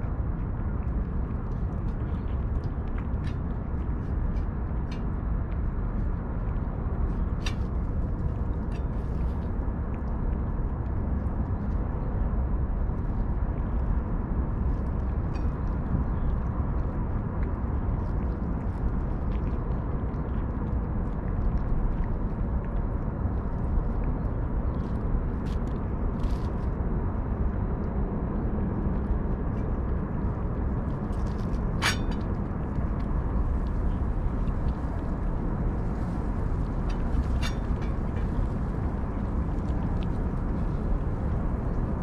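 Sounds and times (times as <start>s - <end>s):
cats chewing and licking: 0.0s - 11.8s, 12.6s - 42.0s
low background rumble: 0.0s - 42.0s.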